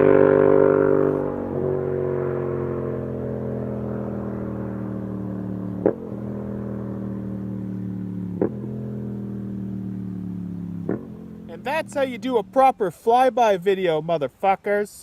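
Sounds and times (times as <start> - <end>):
motorcycle engine running: 0.0 - 12.7
sharp exhaust cracks: 0.0 - 13.7.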